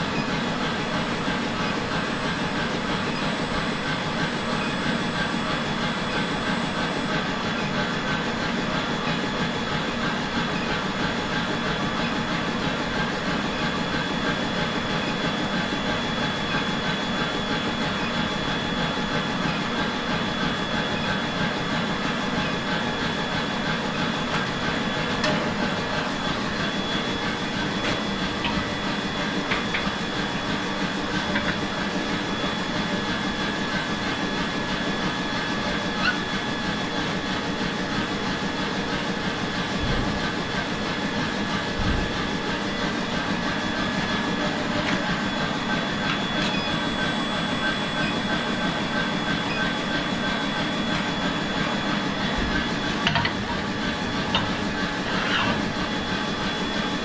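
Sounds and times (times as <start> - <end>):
high-pitched machine whine: 0.0 - 57.0
machinery droning: 0.0 - 57.0.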